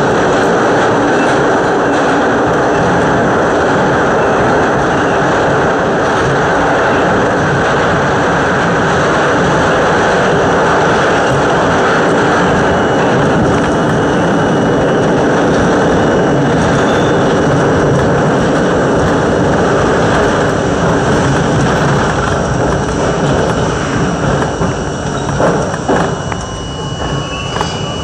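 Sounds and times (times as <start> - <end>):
subway train wheels rumbling: 0.0 - 28.0.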